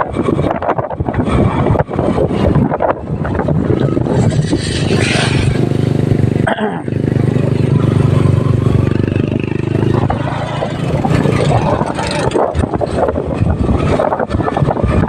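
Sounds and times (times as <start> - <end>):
wind buffeting on microphone: 0.0 - 15.0
motorcycle engine running: 0.1 - 15.0.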